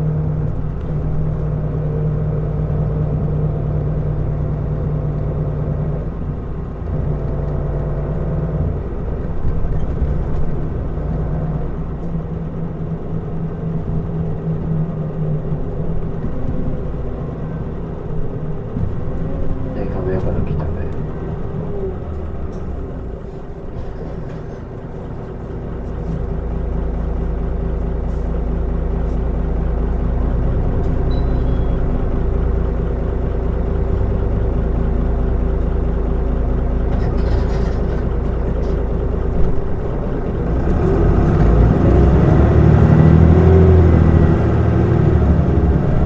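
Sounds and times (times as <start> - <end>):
bus diesel engine droning: 0.0 - 46.0.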